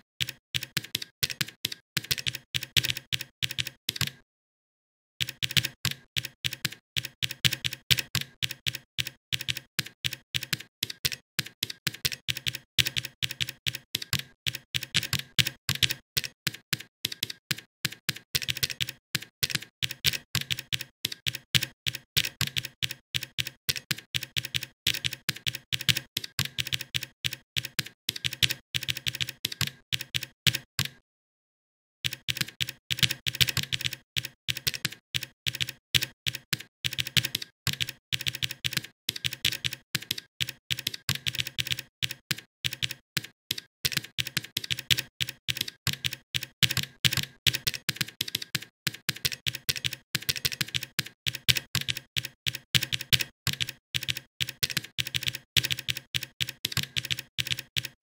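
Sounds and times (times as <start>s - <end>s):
typing on a keyboard: 0.0s - 4.2s, 5.2s - 31.0s, 32.0s - 58.0s.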